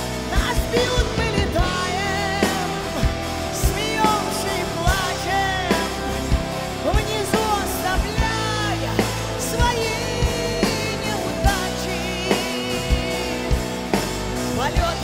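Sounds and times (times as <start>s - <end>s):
drums keeping a beat: 0.0s - 15.0s
live pop-rock band playing: 0.0s - 15.0s
sliding lead guitar line: 0.0s - 15.0s.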